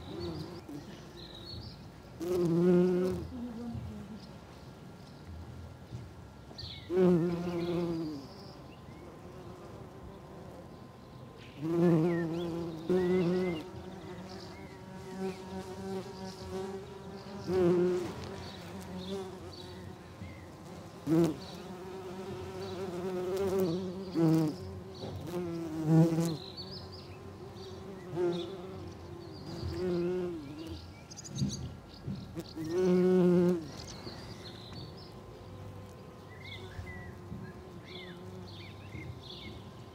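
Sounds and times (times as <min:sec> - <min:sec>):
background hum of bees: 0:00.0 - 0:39.9
bumblebees buzzing past: 0:02.2 - 0:04.3, 0:06.8 - 0:31.6, 0:32.2 - 0:39.9.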